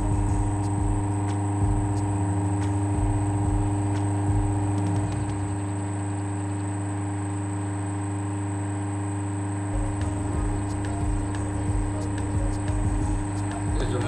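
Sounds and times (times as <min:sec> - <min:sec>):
fan motor humming: 0:00.0 - 0:14.0.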